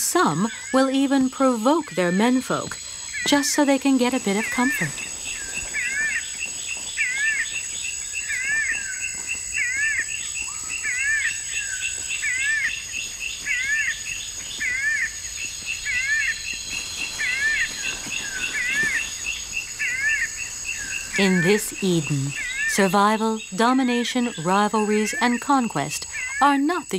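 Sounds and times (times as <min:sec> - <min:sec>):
insects trilling: 0:00.0 - 0:26.9
bird zigzag chirping call: 0:00.2 - 0:14.0, 0:14.6 - 0:26.9.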